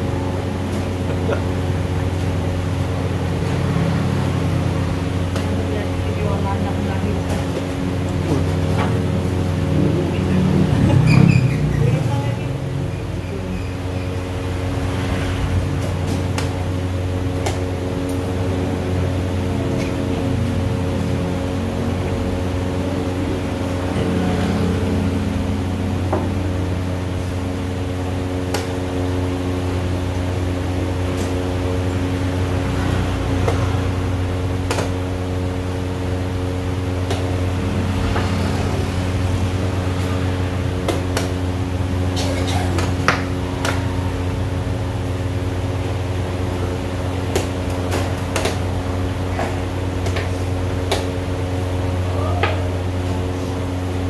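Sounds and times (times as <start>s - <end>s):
machine hum: 0.0s - 54.0s.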